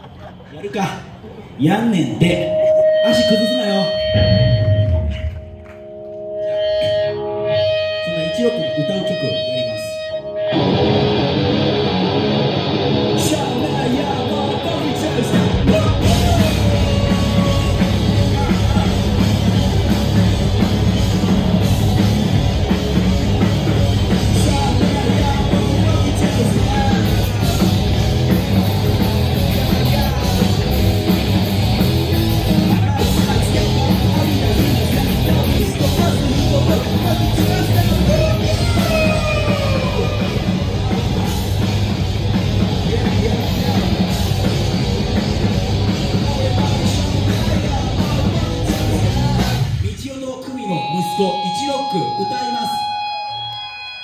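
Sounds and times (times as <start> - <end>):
live rock band playing: 3.0 - 50.0.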